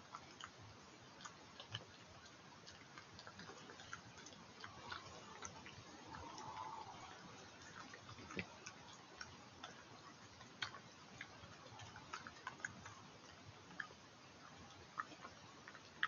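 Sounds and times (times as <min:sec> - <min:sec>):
badger eating clicks and crackles: 0:00.0 - 0:16.0.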